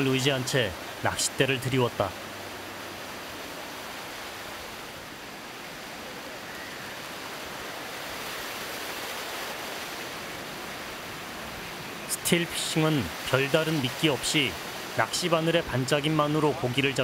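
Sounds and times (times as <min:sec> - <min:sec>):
ocean waves breaking: 0:00.0 - 0:17.0.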